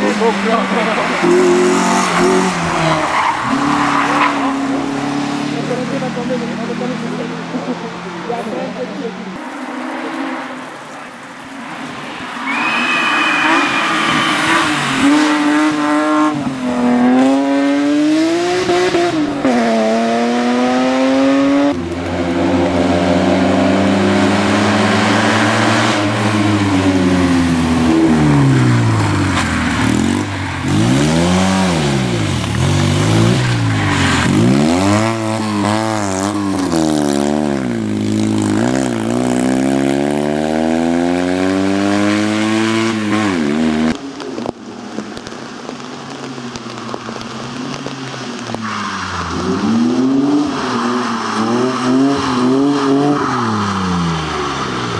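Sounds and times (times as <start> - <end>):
rally car engine revving: 0.0 - 10.9, 12.5 - 44.6, 45.2 - 54.9.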